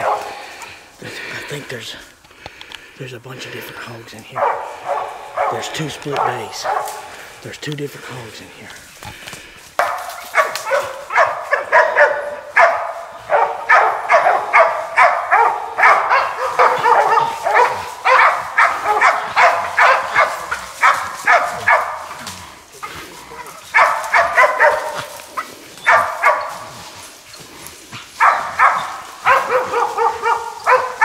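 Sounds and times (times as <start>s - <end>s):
dogs barking rapidly: 0.0s - 0.8s, 4.3s - 7.4s, 9.8s - 31.0s.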